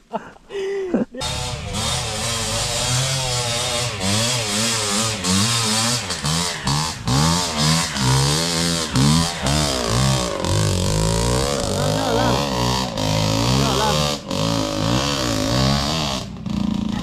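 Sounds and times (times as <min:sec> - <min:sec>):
dirt bike engine revving: 0:01.2 - 0:17.0.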